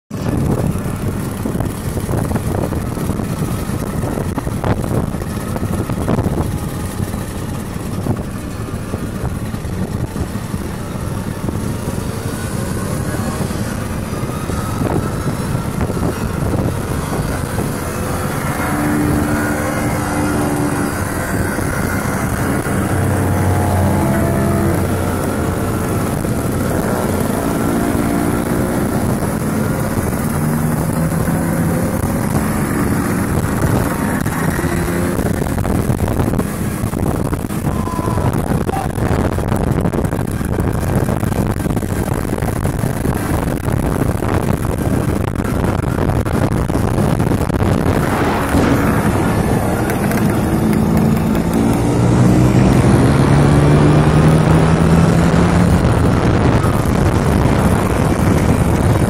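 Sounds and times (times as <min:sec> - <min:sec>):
scooter engine buzzing: 0:00.1 - 0:59.0
scooter engines: 0:00.1 - 0:59.0
wind and road rush: 0:00.1 - 0:59.0.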